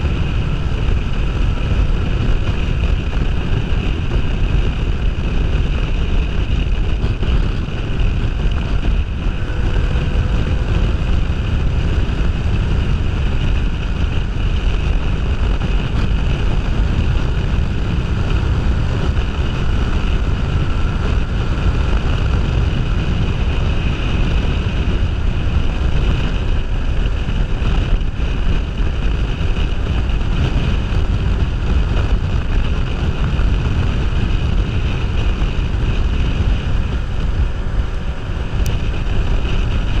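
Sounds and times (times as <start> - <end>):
motorcycle engine running: 0.0 - 40.0
wind buffeting a camera: 0.0 - 40.0.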